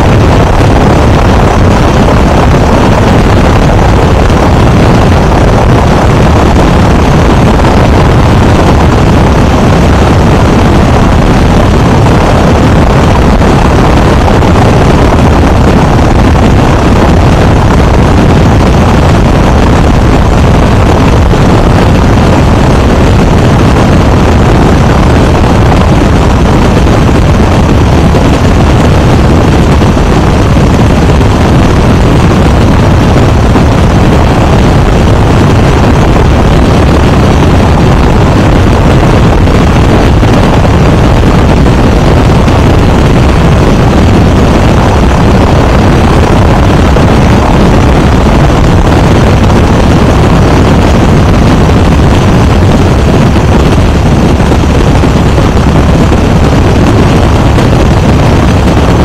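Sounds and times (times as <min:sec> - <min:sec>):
propeller engine running: 0:00.0 - 0:59.0.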